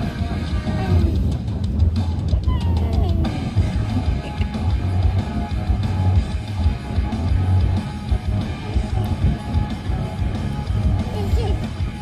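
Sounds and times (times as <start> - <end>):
guitar music with pulsing bass: 0.0 - 12.0.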